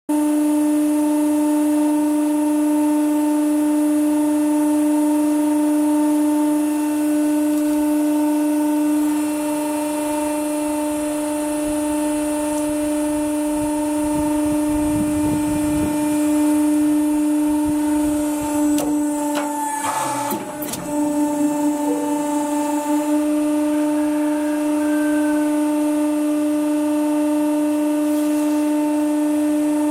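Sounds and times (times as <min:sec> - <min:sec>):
hydraulic press humming: 0:00.2 - 0:29.9.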